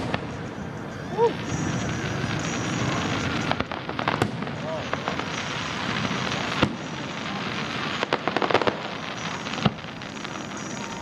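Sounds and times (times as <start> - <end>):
crackling firework pops: 0.0 - 0.6, 1.4 - 11.0
fireworks bangs: 0.0 - 11.0.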